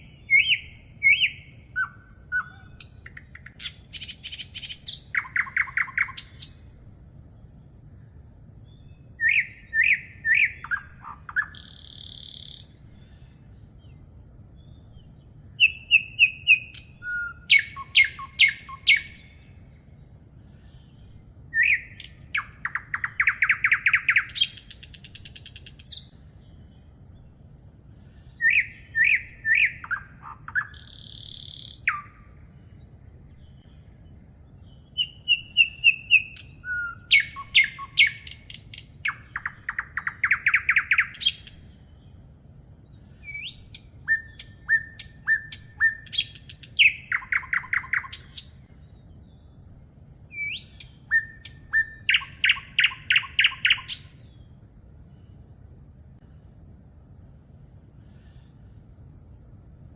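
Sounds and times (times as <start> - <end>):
low steady rumble: 0.0 - 59.9
songbirds singing: 0.0 - 59.9.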